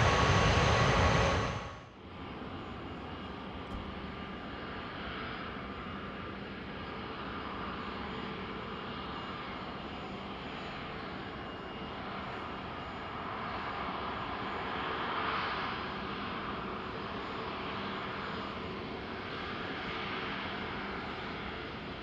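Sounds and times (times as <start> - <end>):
jet engines rushing with whine: 0.0 - 22.0.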